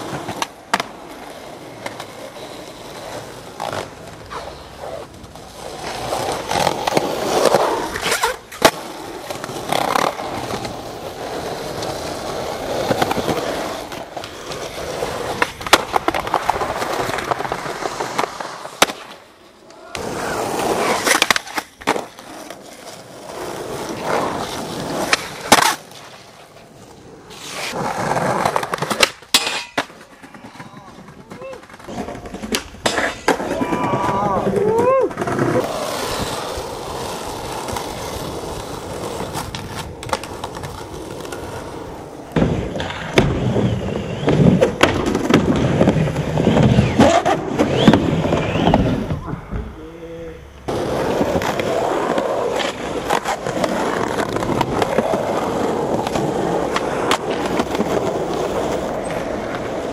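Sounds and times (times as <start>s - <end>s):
skateboard clacking on ground: 0.0s - 49.8s, 50.5s - 59.9s
skateboard wheels rolling on concrete: 0.0s - 59.9s.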